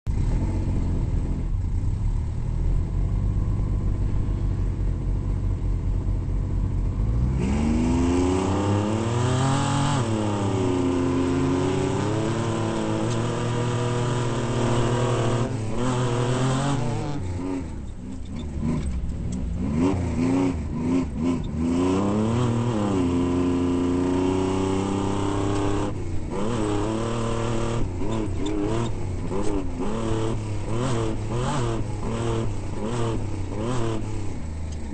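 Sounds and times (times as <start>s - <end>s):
off-road vehicle engine revving: 0.1s - 34.9s.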